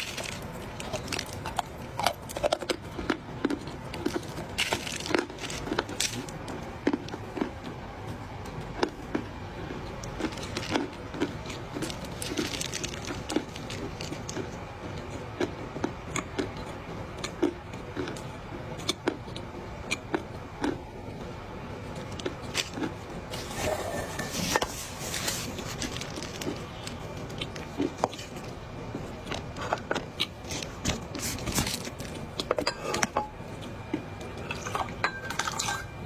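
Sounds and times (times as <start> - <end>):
chewing dry clay crunches: 0.0 - 21.2, 21.8 - 34.6.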